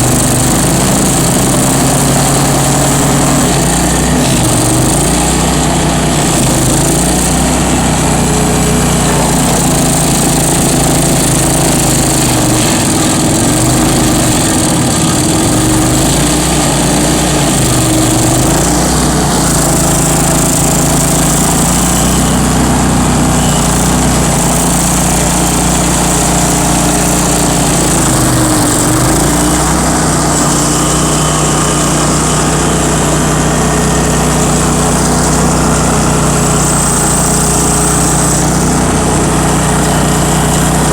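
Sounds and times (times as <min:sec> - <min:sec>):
stump grinder engine running: 0:00.0 - 0:40.9.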